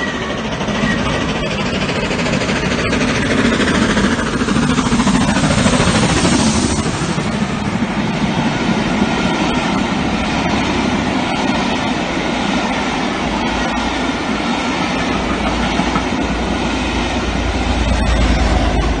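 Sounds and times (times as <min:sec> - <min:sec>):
locomotive deep rumble: 0:00.0 - 0:19.0
train wheels clacking on rails: 0:00.0 - 0:19.0.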